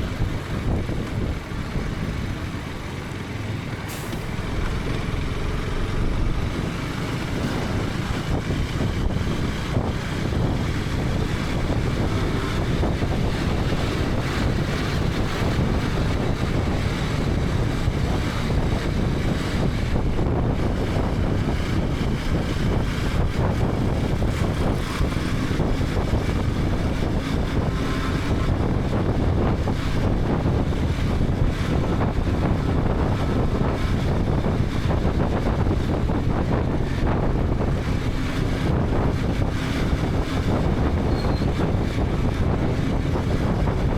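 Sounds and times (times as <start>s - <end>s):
motorcycle engine cruising: 0.0s - 43.9s
wind rushing over microphone: 0.0s - 43.9s.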